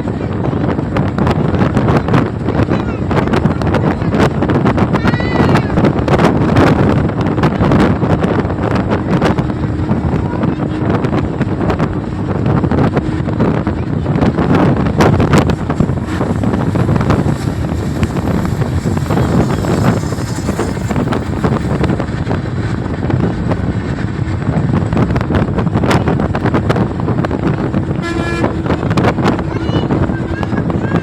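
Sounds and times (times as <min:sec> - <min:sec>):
vehicle rumble: 0:00.0 - 0:31.0
wind buffeting microphone: 0:00.0 - 0:31.0.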